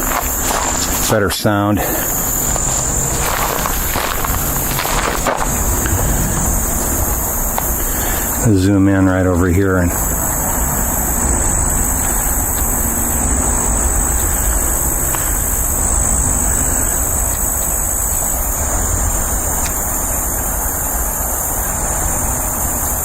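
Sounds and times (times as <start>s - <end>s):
crickets chirping: 0.0s - 23.0s
low background rumble: 0.0s - 23.0s.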